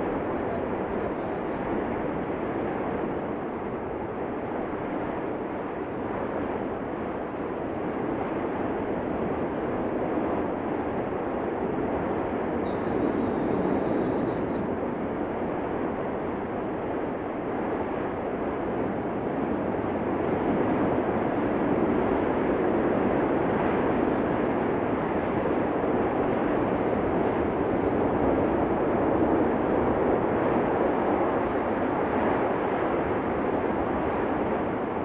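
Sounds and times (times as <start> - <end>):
volcano rushing roar: 0.0 - 35.0.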